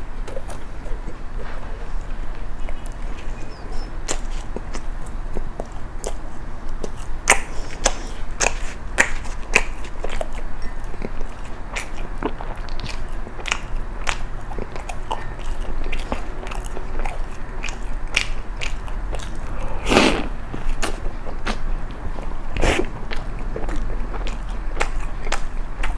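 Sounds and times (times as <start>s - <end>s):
chewing crisp toast: 0.2s - 25.9s.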